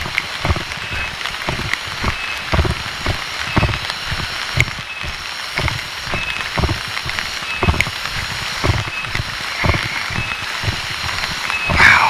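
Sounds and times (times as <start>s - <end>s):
rain hiss: 0.0s - 12.0s
sandal footsteps on wet path: 0.0s - 12.0s.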